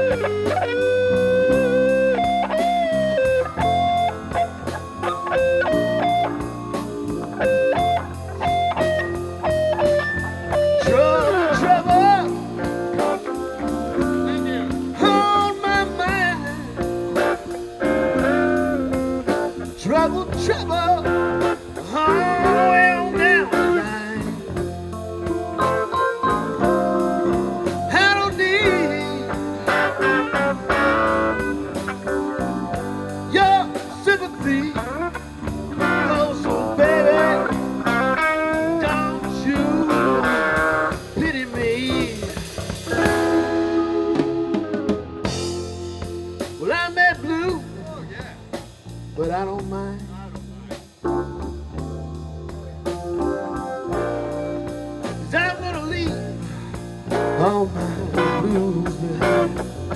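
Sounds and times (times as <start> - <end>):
bass guitar: 0.0 - 59.9
drum kit cymbal beat: 0.0 - 59.9
electric guitar lead with bent notes: 0.0 - 59.9
keyboard: 0.0 - 59.9.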